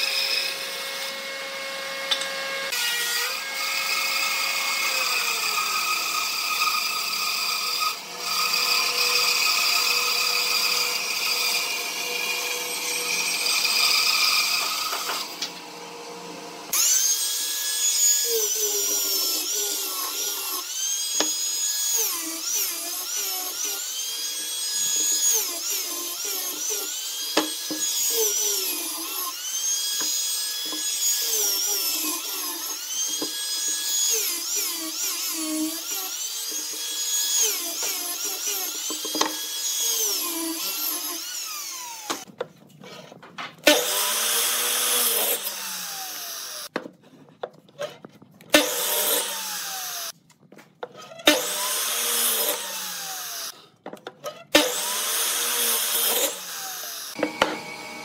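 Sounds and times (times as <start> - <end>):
bandsaw cutting wood: 0.0 - 15.5, 16.6 - 46.7, 47.8 - 50.2, 50.8 - 58.0.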